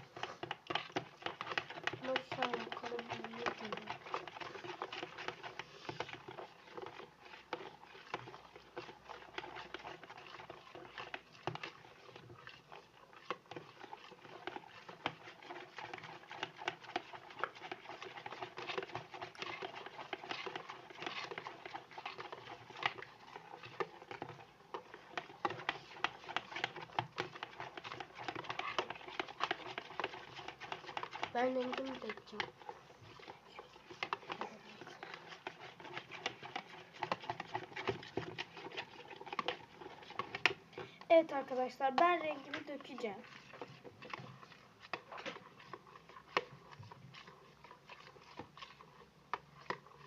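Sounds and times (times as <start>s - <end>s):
spoon stirring runny mixture: 0.0s - 50.0s.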